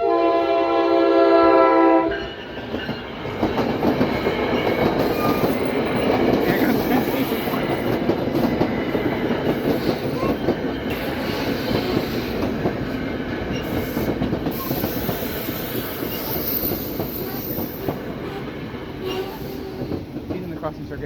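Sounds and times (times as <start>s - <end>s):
train rolling rumble: 1.0s - 21.0s
wheel clatter over rail joints: 2.6s - 21.0s.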